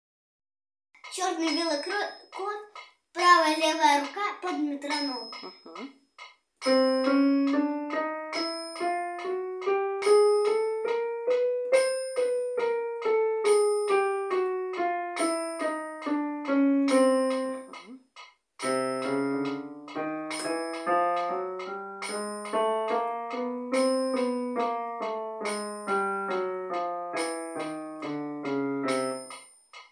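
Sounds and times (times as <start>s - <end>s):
digital piano notes: 1.0s - 29.9s
metronome ticking: 1.0s - 29.9s.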